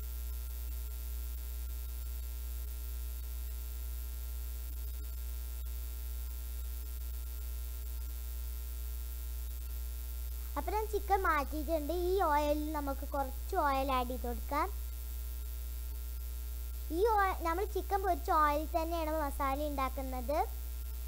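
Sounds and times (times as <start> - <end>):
mains hum: 0.0 - 21.0.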